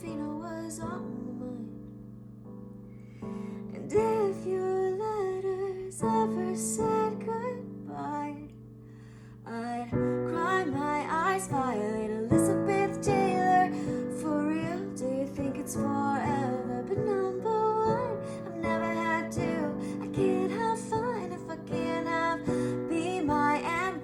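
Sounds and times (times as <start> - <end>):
woman singing: 0.0 - 2.0, 3.7 - 8.6, 9.5 - 24.0.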